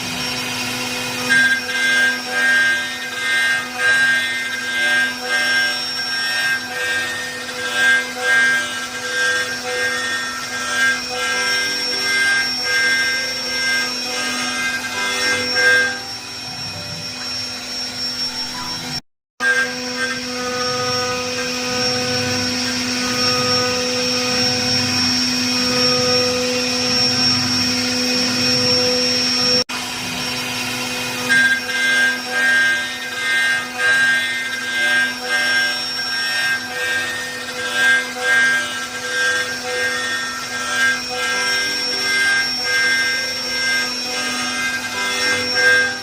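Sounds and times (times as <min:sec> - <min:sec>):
cutter scraping spinning wood: 0:00.0 - 0:46.0
lathe motor whine and hum: 0:00.0 - 0:46.0.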